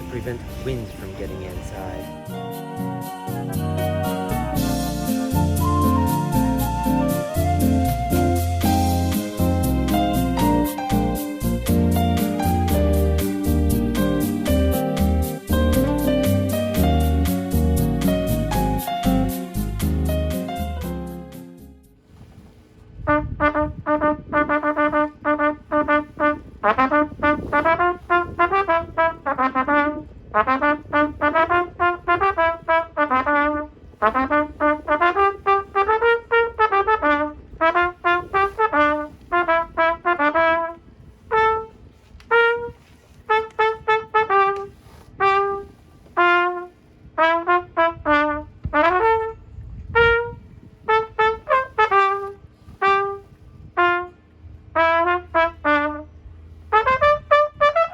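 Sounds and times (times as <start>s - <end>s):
solo trumpet melody: 0.0s - 21.6s, 23.1s - 57.9s.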